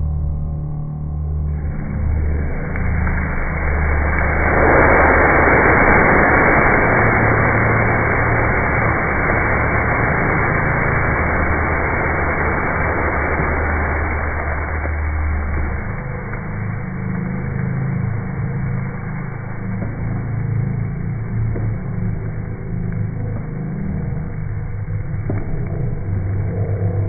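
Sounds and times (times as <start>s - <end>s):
low drone: 0.0s - 27.0s
fireball rushing roar: 1.5s - 27.0s.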